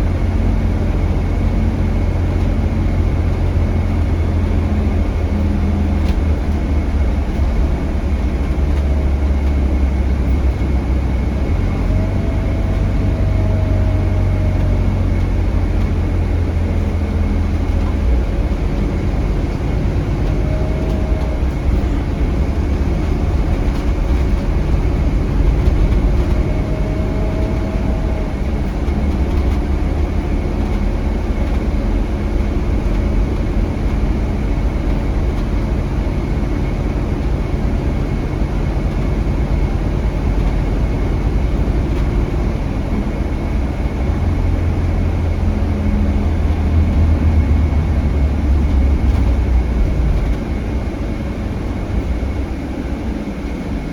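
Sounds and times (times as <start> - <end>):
bus diesel engine rumbling: 0.0 - 53.9
road noise: 0.0 - 53.9.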